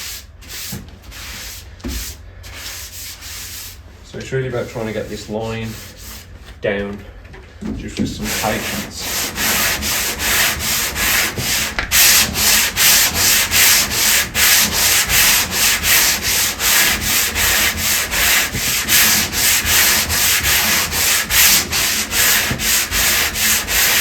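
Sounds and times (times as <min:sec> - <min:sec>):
hand sanding wood: 0:00.0 - 0:06.8, 0:07.7 - 0:24.0.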